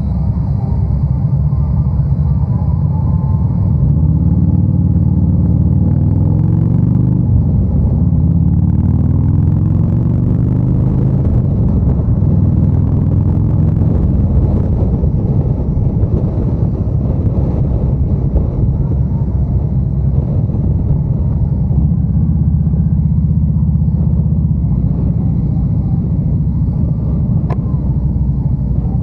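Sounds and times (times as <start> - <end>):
motorcycle engine accelerating: 0.0 - 29.0
wind rushing: 5.2 - 28.8.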